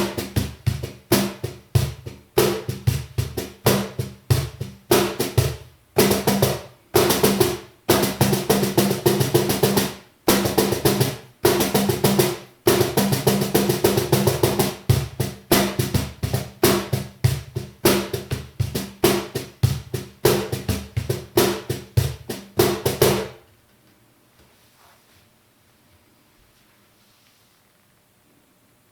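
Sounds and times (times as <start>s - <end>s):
cajon played by hand: 0.0s - 23.4s.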